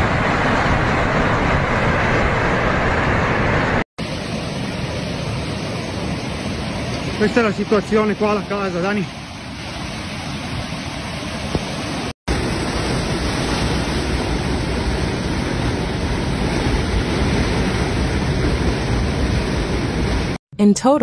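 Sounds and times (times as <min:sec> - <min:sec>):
floodwater rushing: 0:00.0 - 0:20.4.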